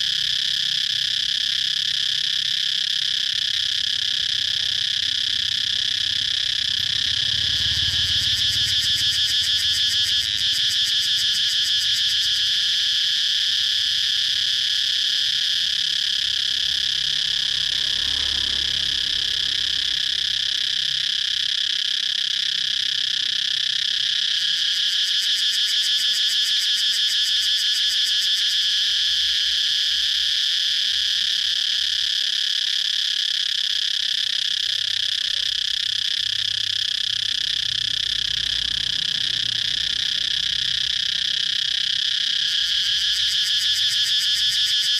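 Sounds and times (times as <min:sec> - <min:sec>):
cicada buzzing: 0:00.0 - 0:44.9.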